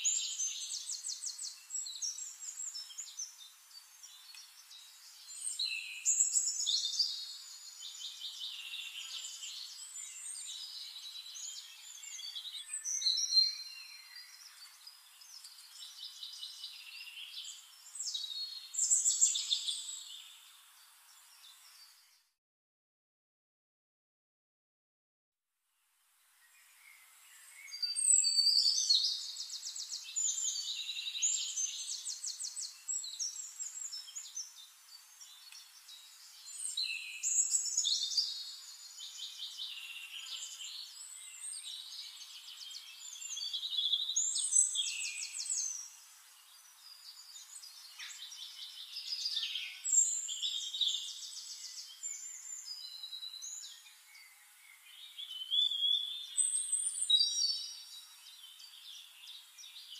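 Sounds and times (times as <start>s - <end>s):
songbirds chirping and trilling: 0.0s - 22.4s, 26.0s - 59.9s.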